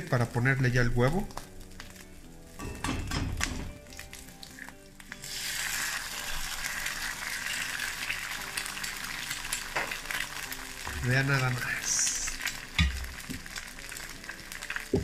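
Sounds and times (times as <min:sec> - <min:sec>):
sausage frying in oil: 0:00.0 - 0:15.0
egg sizzling in hot oil: 0:01.0 - 0:15.0.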